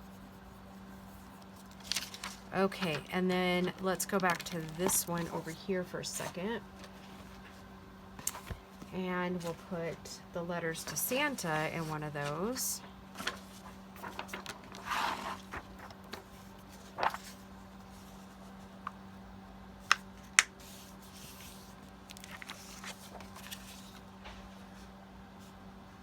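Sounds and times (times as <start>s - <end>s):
paper rustling: 0.1s - 9.8s, 10.7s - 19.0s, 20.2s - 24.5s.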